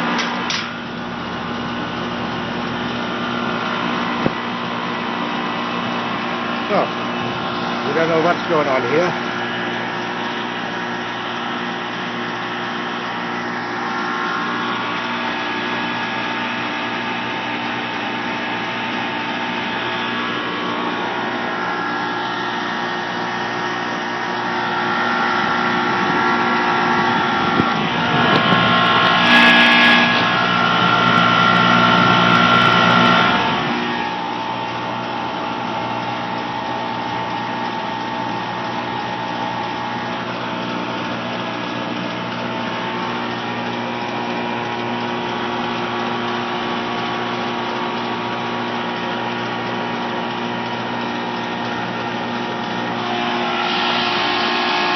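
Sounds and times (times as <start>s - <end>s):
air conditioning compressor humming: 0.0s - 54.9s.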